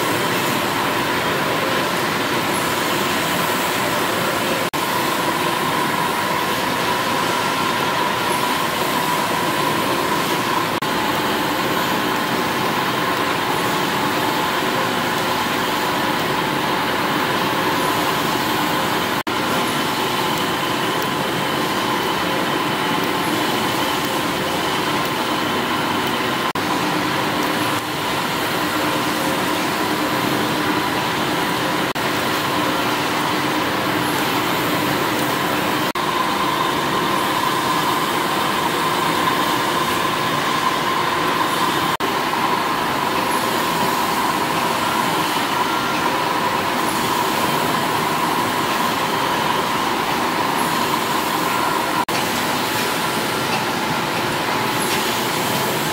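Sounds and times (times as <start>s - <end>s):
steam engines running: 0.0s - 55.9s.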